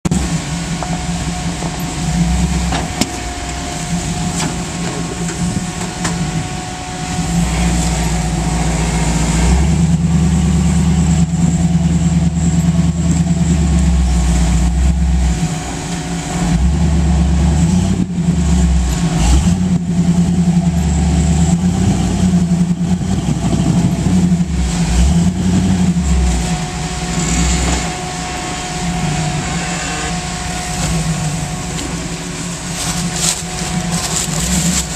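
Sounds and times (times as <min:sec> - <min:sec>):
off-road vehicle engine revving: 0:00.0 - 0:34.9.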